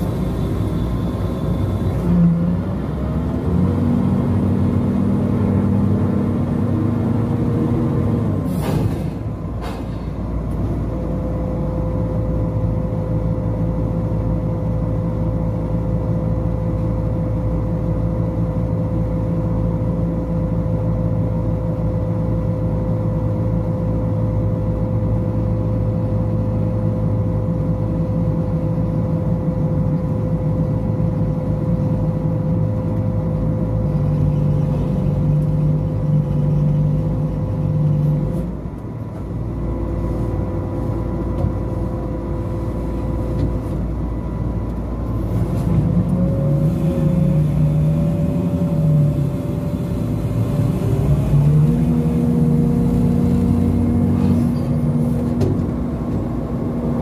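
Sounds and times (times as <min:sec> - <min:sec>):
crane diesel engine drone: 0:00.0 - 0:57.0.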